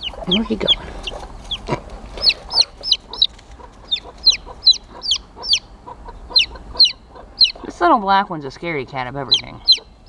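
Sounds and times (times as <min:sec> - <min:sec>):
baby chicks peeping: 0:00.0 - 0:10.0.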